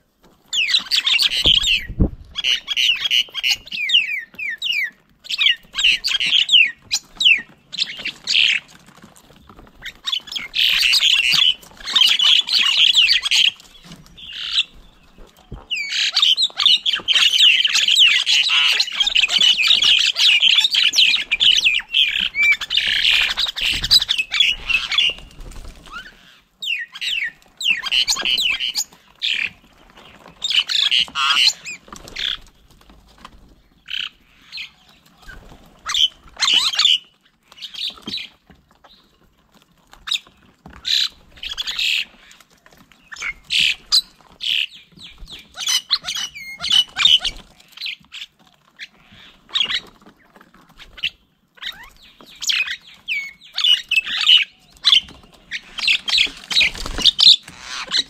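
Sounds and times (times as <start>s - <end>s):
birds calling and squawking: 0.2s - 58.0s.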